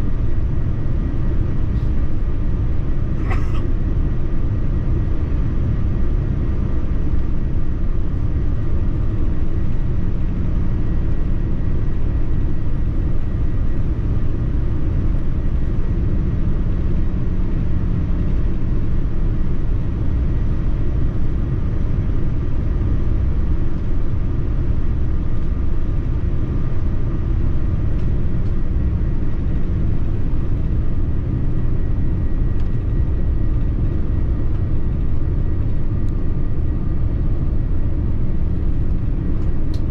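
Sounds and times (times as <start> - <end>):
airliner cabin engine roar: 0.0 - 39.9
faint steady whine: 0.0 - 39.9.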